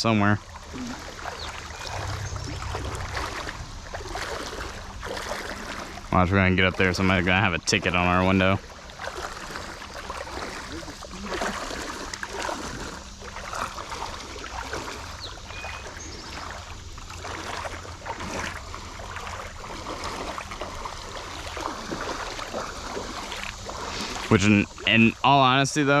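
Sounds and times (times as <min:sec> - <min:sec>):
water splashing around wading legs: 0:00.4 - 0:25.2.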